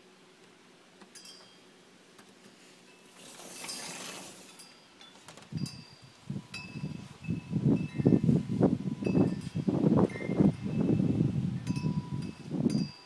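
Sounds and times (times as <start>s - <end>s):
wind chimes tinkling: 1.1s - 1.8s, 2.7s - 13.0s.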